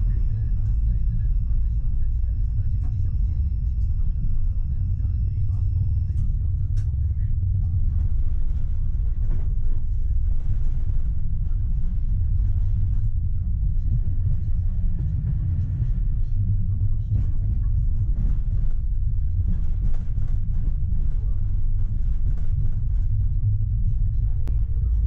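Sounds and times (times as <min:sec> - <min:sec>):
tram wheels rumbling: 0:00.0 - 0:25.0.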